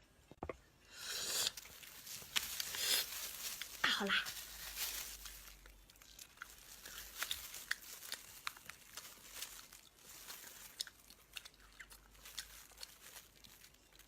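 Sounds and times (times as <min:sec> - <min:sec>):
person chewing and crunching: 0:00.9 - 0:03.8, 0:04.4 - 0:14.0.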